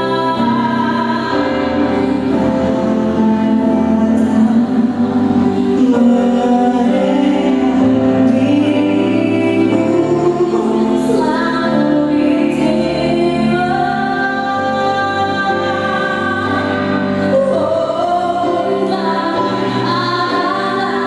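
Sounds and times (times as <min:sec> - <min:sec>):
choir singing long chords: 0:00.0 - 0:21.0.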